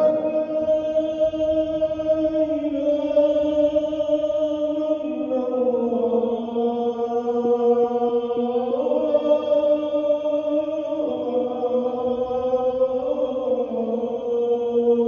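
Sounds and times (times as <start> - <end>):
person chanting long held notes: 0.0 - 15.0.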